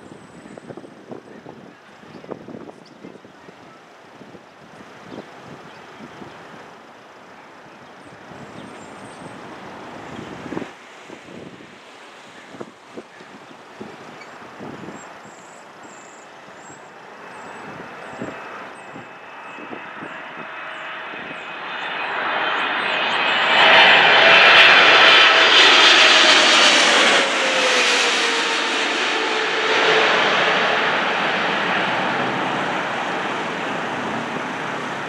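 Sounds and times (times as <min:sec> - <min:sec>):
jet engines passing overhead: 0:00.0 - 0:35.0.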